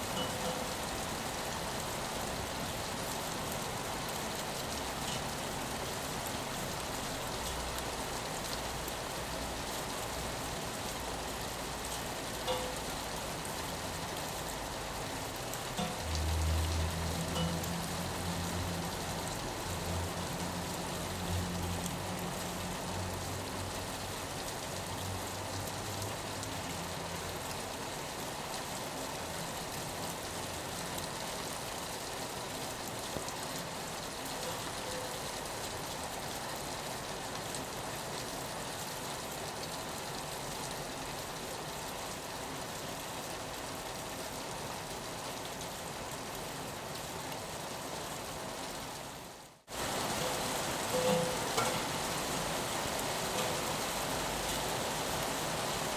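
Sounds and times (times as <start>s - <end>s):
rain on a window: 0.0s - 55.9s.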